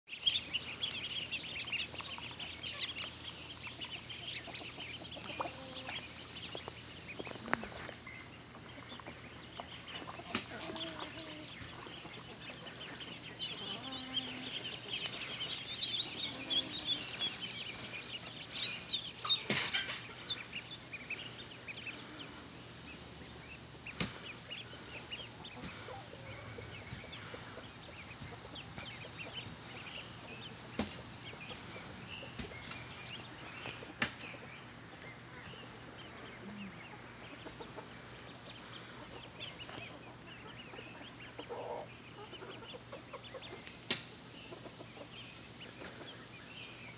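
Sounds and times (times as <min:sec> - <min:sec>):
ducklings peeping: 0:00.1 - 0:46.9.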